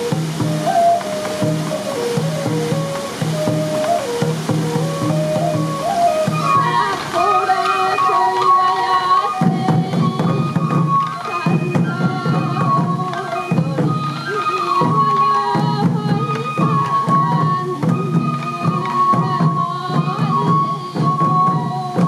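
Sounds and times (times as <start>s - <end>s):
bamboo flute melody: 0.0s - 22.0s
small taiko drums beating: 0.0s - 22.0s.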